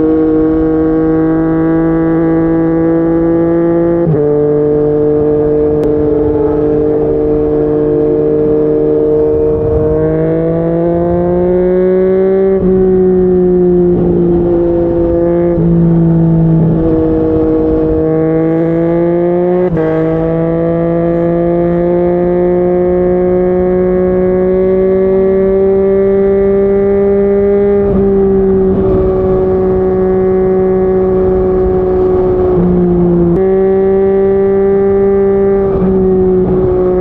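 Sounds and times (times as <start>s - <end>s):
motorcycle engine at highway speed: 0.0s - 37.0s.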